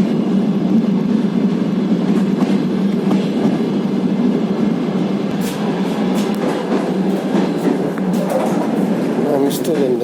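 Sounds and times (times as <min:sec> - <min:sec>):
train carriage rumble: 0:00.0 - 0:10.0
train wheels clicking: 0:02.0 - 0:10.0.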